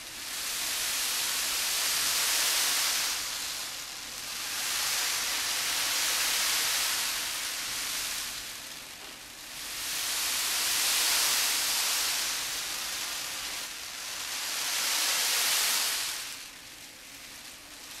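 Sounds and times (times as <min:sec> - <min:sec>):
beans rolling in container: 0:00.0 - 0:18.0.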